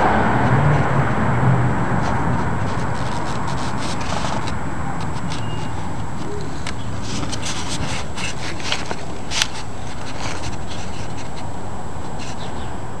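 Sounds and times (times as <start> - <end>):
steady low rumble: 0.0 - 13.0
crackling rustles and scrapes: 1.8 - 12.6.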